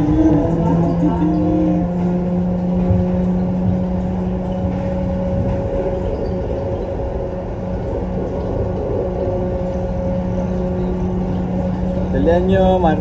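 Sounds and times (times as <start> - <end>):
people-mover train running: 0.0 - 13.0.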